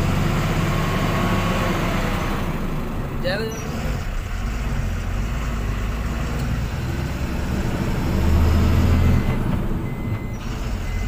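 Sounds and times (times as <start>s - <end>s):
road noise: 0.0s - 11.0s
truck engine droning: 0.0s - 11.0s.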